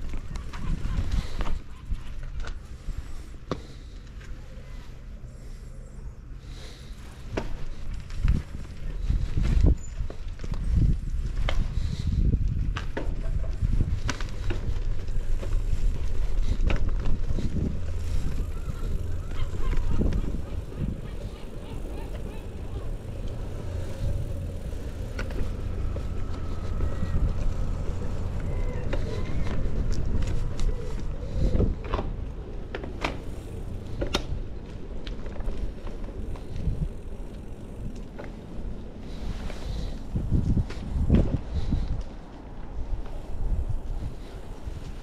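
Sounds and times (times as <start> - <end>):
wind rumbling on microphone: 0.0 - 3.8, 6.5 - 45.0
bicycle clicks and rattles: 0.0 - 5.1, 5.7 - 45.0.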